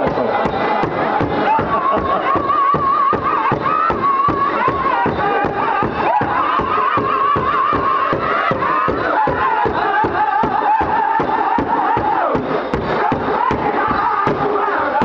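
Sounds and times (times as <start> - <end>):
large drum steady fast beat: 0.0 - 15.0
men singing high-pitched song: 0.0 - 15.0.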